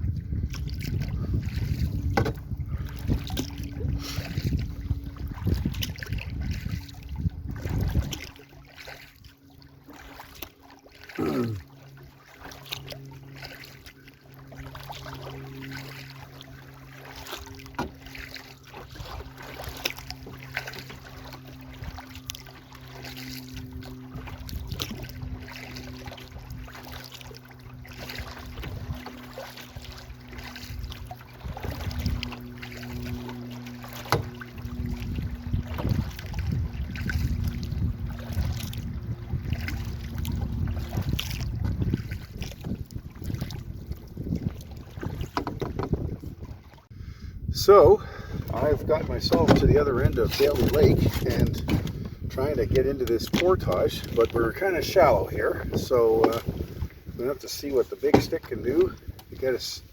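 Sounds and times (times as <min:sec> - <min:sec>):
wind on microphone: 0:00.0 - 0:08.6, 0:17.3 - 0:59.9
paddle splashes and drips: 0:00.0 - 0:59.9
steady low hum: 0:00.0 - 0:59.9.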